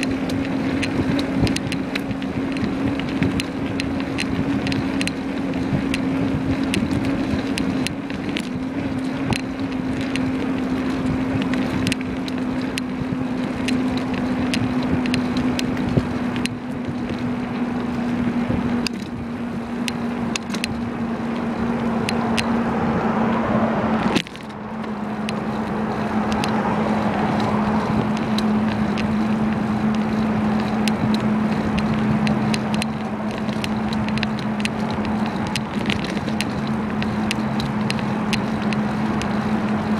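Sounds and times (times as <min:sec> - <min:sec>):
small rattles and clicks: 0:00.0 - 0:22.7, 0:23.3 - 0:39.9
bicycle hum: 0:00.0 - 0:39.9
road noise: 0:00.0 - 0:39.9
wind: 0:00.0 - 0:39.9.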